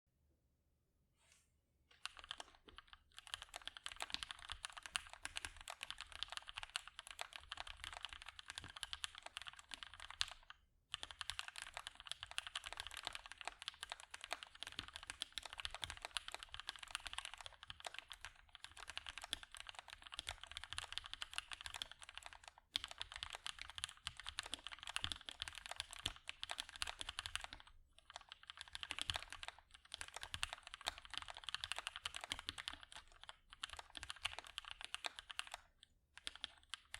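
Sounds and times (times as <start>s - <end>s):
mechanical keyboard typing: 1.9s - 36.9s.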